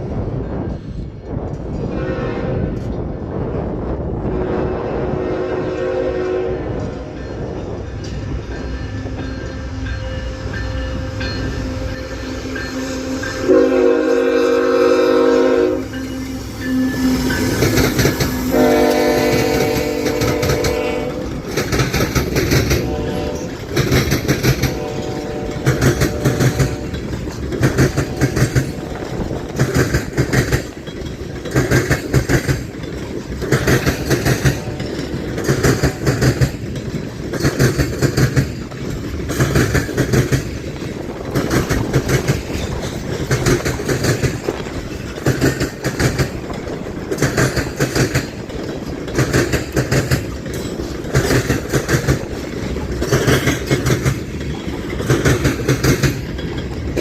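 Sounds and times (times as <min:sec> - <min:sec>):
freight train wheels clacking: 0:05.0 - 0:57.0.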